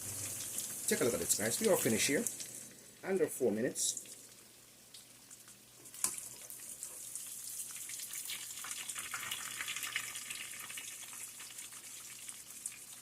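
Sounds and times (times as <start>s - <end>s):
meatballs sizzling in oil: 0.0s - 13.0s.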